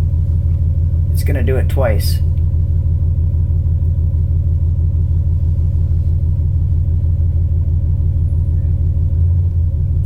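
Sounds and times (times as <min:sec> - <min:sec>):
engine idling with uneven pulse: 0:00.0 - 0:10.0.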